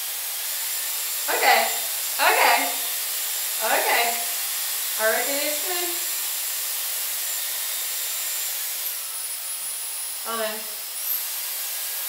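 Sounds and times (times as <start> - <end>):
hair styler blowing air: 0.0 - 12.0.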